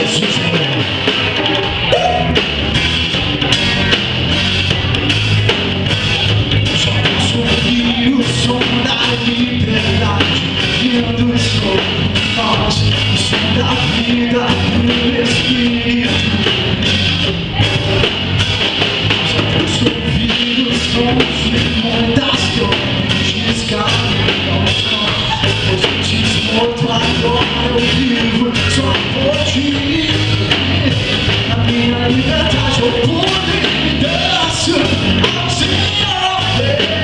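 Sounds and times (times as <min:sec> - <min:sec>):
drum kit steady beat: 0:00.0 - 0:37.0
live reggae band: 0:00.0 - 0:37.0
sustained bass notes: 0:00.0 - 0:37.0.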